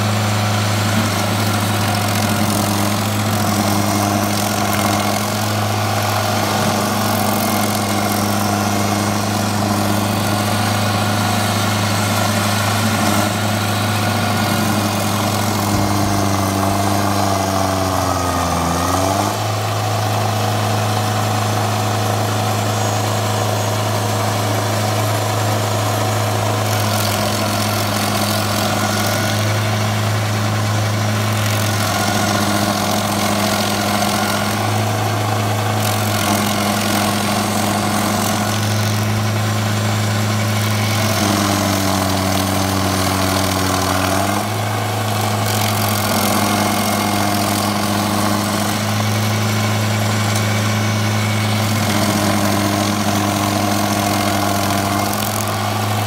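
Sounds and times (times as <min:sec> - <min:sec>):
wood-processing machine engine running: 0:00.0 - 0:56.0.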